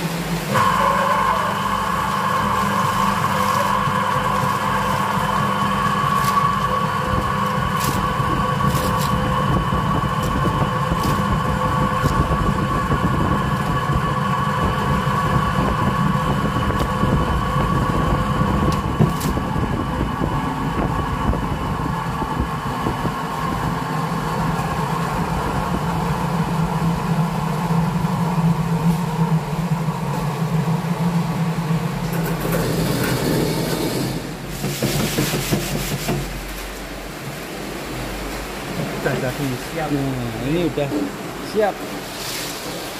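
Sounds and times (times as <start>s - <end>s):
centrifugal spinner running: 0.0s - 42.9s.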